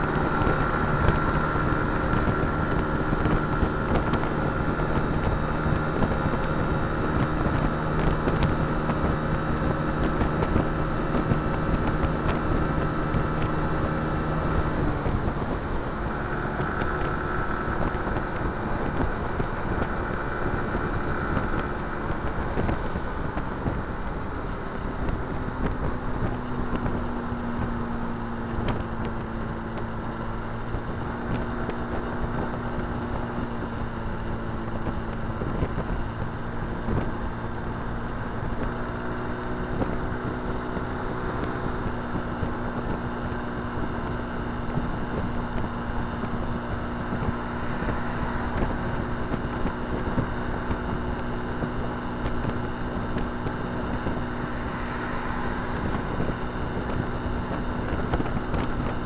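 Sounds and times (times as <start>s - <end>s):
scooter engine running: 0.0s - 59.0s
wind rushing over microphone: 0.0s - 59.0s.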